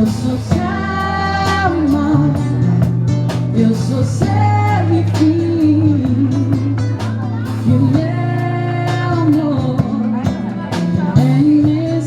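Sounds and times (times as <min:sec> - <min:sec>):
pop song with guitar and bass: 0:00.0 - 0:12.0.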